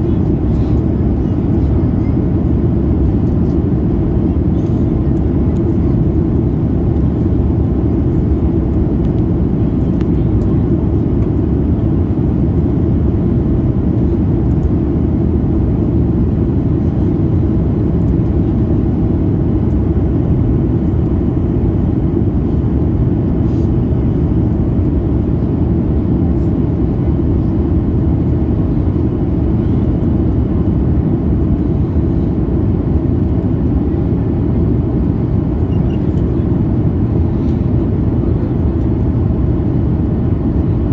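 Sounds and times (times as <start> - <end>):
airplane cabin engine rush: 0.0 - 40.9.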